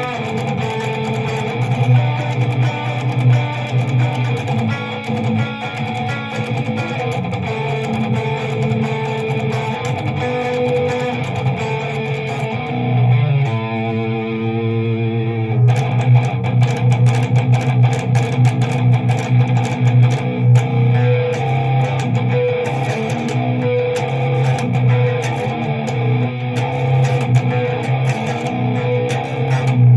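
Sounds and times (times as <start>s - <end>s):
electric guitar chords: 0.0s - 29.9s.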